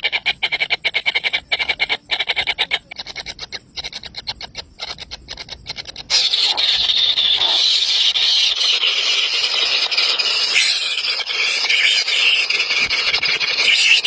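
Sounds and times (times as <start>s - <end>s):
nestling birds begging calls: 0.0s - 14.0s.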